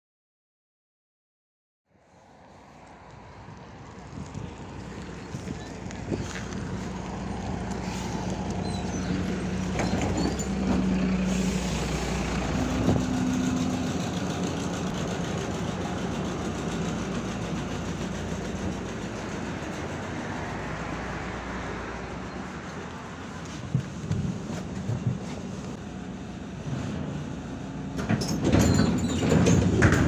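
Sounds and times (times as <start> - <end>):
road noise: 1.8 - 30.0
bus diesel engine drone: 1.9 - 30.0.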